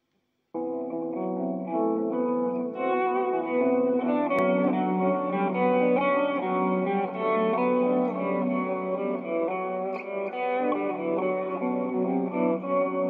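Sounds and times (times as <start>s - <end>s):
electric guitar melody: 0.6s - 13.0s.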